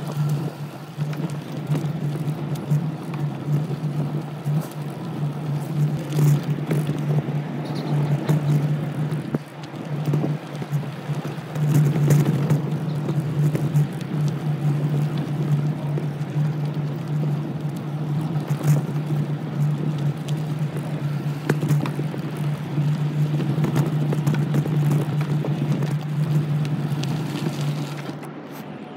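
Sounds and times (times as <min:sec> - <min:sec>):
small motor running: 0:00.0 - 0:28.2
ticks and rattles from bumpy ride: 0:00.0 - 0:28.9.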